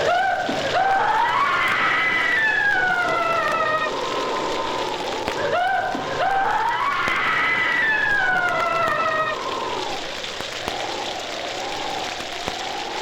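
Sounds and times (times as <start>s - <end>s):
hiss of rain: 0.0s - 13.0s.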